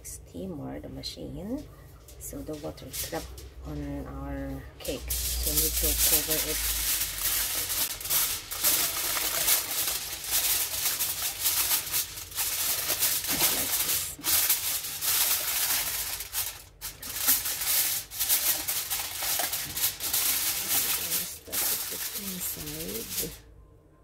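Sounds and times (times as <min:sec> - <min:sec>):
aluminium foil crinkling: 0:01.5 - 0:23.5.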